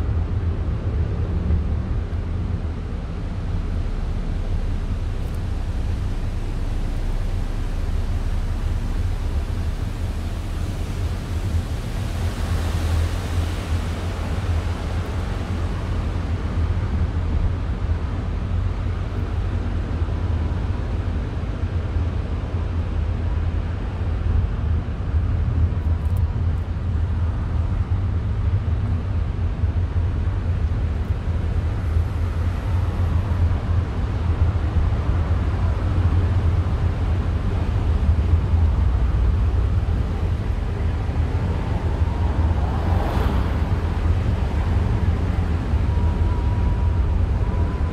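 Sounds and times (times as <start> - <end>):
low rumbling noise: 0.0 - 47.9.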